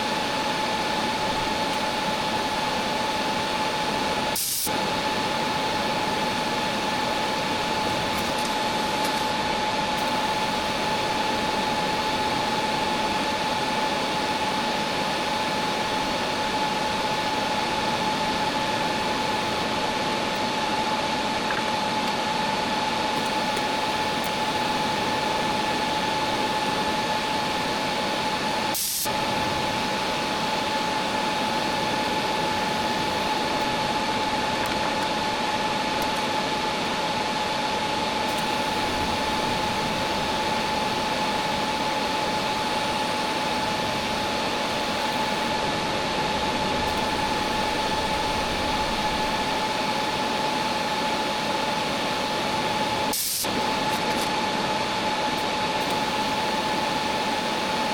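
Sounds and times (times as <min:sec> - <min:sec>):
welding arc hiss and whine: 0:00.0 - 0:57.9.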